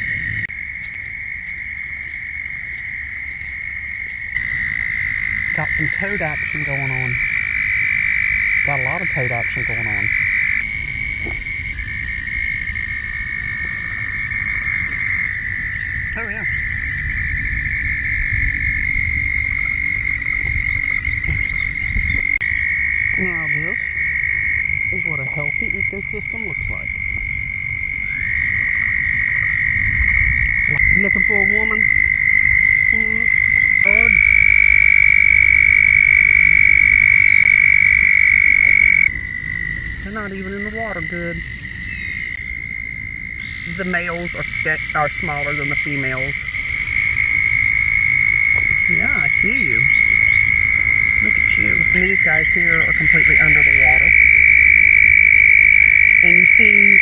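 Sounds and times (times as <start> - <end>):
toads trilling: 0.0 - 57.0.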